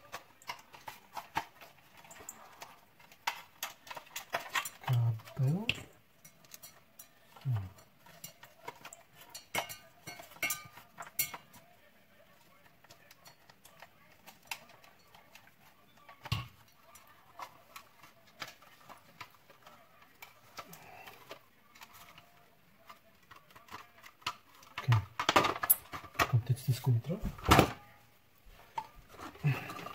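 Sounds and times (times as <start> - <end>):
plastic parts clicking and rustling: 0.0 - 29.9.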